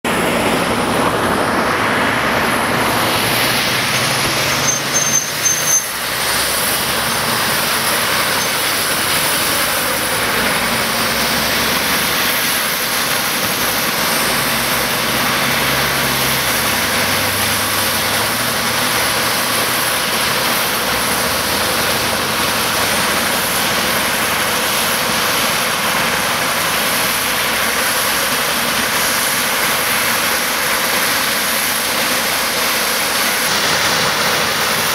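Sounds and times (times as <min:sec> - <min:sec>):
helicopter turbine engines running: 0:00.1 - 0:34.9.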